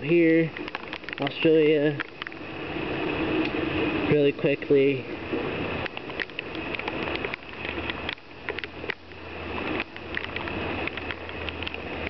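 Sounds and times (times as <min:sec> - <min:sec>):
heavy rain on street: 0:00.0 - 0:12.0
raindrops ticking near microphone: 0:00.0 - 0:12.0.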